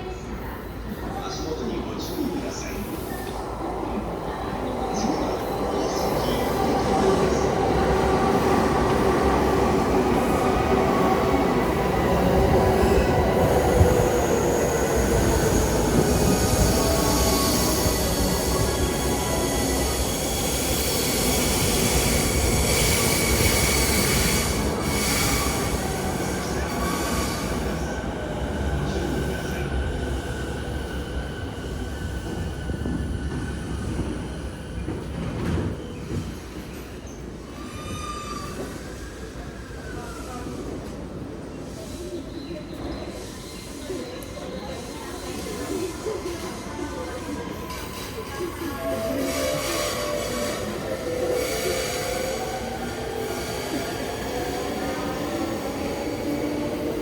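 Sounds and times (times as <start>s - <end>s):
train wheels rumbling on rail: 3.0s - 57.0s.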